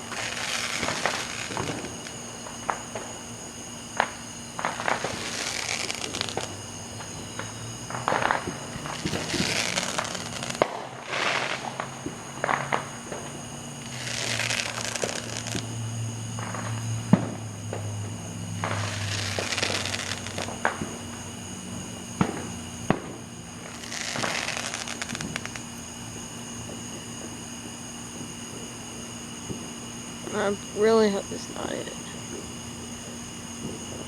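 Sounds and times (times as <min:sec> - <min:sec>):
fireworks hissing rushes: 0:00.0 - 0:34.0
fireworks pops and cracks: 0:00.0 - 0:34.0.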